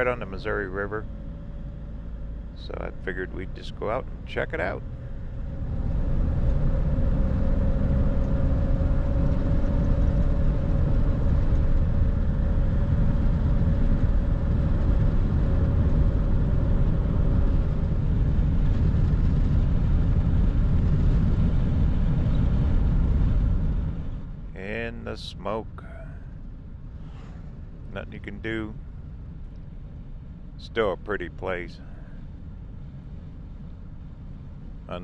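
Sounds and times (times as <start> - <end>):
engine and road noise rumble: 0.0 - 35.0
faint steady hum: 0.0 - 35.0.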